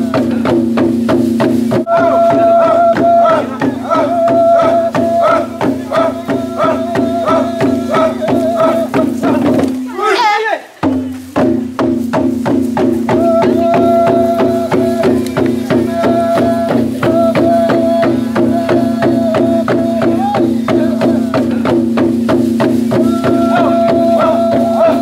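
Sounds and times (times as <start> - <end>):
clicking percussion beat: 0.0 - 25.0
high held melody: 1.2 - 25.0.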